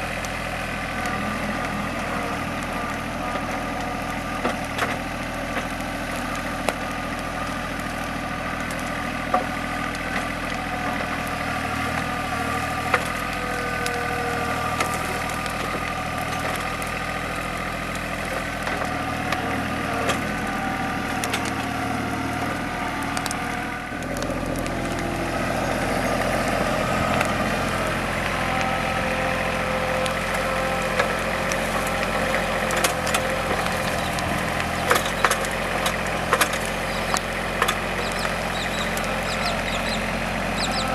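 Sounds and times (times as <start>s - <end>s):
tractor diesel engine running: 0.0s - 40.9s
wood cracking and snapping: 0.2s - 40.9s.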